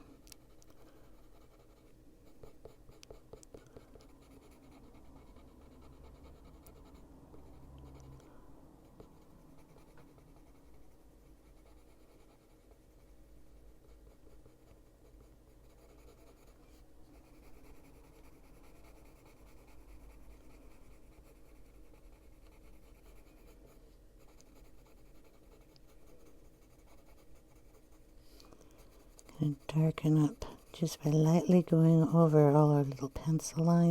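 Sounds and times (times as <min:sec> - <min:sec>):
pencil scratching on paper: 0:00.4 - 0:08.3, 0:08.9 - 0:13.2, 0:13.8 - 0:33.9.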